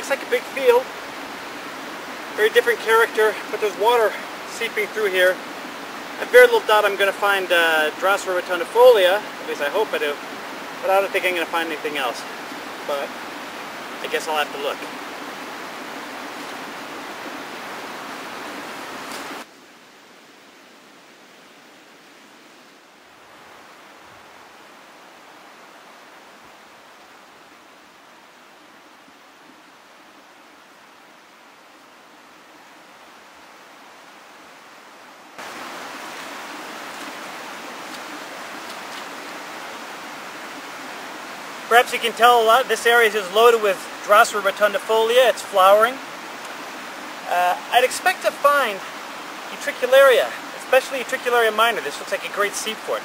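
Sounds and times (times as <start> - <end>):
river rushing: 0.0 - 53.0.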